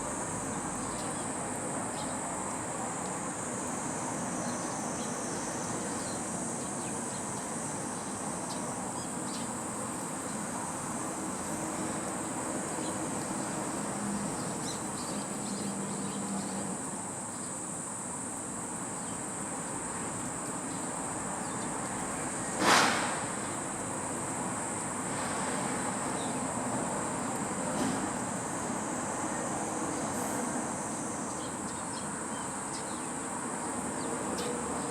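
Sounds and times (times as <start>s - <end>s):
outdoor ambient noise: 0.0s - 34.9s.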